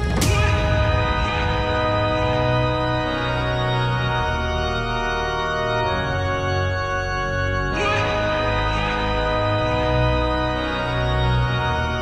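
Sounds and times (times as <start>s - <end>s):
music of long held chords: 0.0s - 12.0s.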